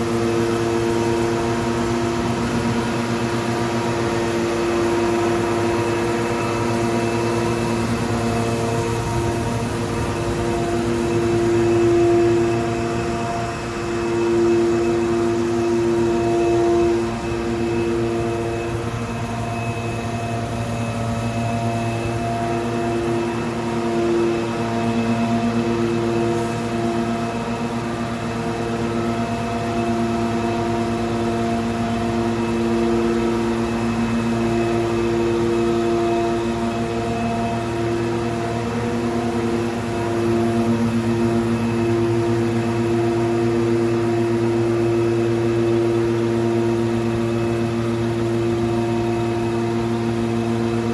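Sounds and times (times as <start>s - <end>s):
pavement grinding machine hum: 0.0s - 50.9s.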